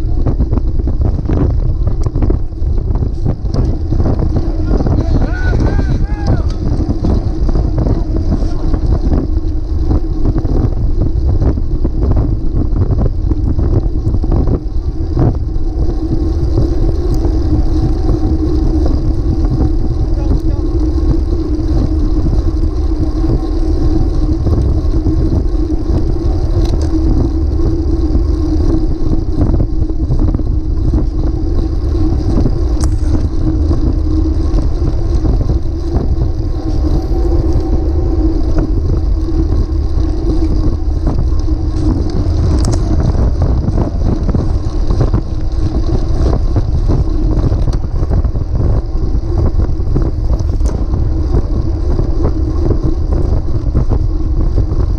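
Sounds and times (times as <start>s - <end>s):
bicycle tyres rolling on asphalt: 0.0s - 54.9s
wind rushing over microphone: 0.0s - 54.9s.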